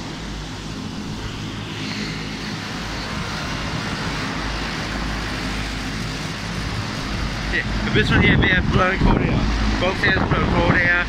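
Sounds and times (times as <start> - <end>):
condenser fans whooshing: 0.0 - 11.0
low steady hum: 0.0 - 11.0.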